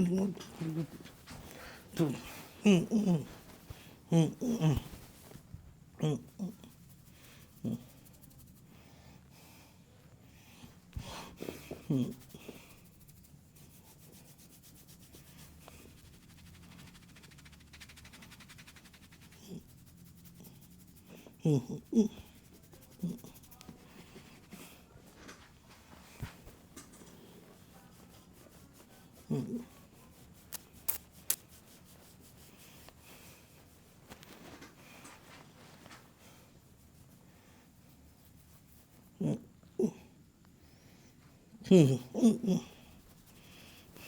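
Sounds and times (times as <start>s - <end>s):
hands rubbing hair and scalp: 0.0s - 8.8s, 10.8s - 39.4s, 42.6s - 44.0s.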